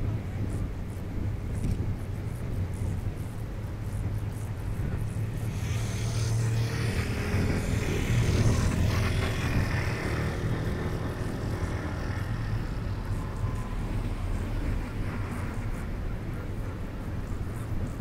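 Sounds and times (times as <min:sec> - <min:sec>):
ship engine drone: 0:00.0 - 0:18.0
hiss: 0:01.9 - 0:18.0.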